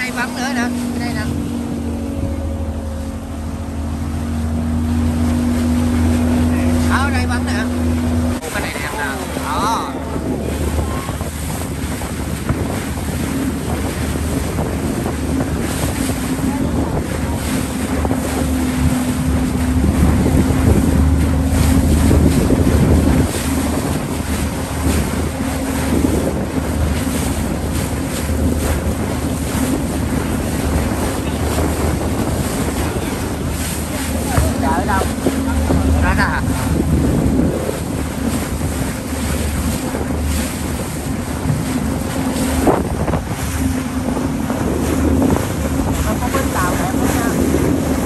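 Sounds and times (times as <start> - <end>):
motorboat engine droning: 0.0 - 48.0
wind rumbling on microphone: 0.0 - 48.0.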